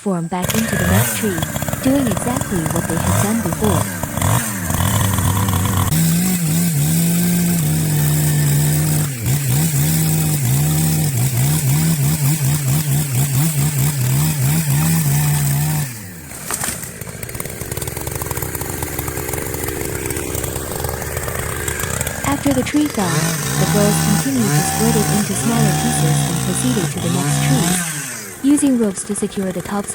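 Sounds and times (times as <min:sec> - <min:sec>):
chainsaw running at full throttle: 0:00.3 - 0:29.9.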